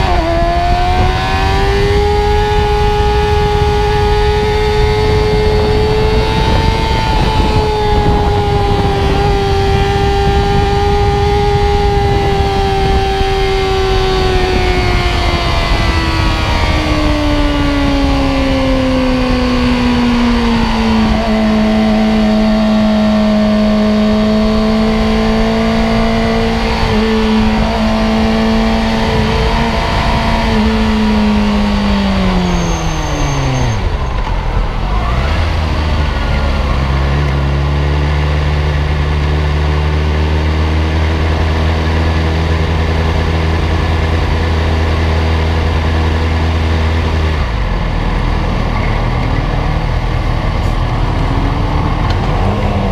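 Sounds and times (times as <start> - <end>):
motorcycle engine: 0.0 - 52.9
wind noise: 0.0 - 52.9.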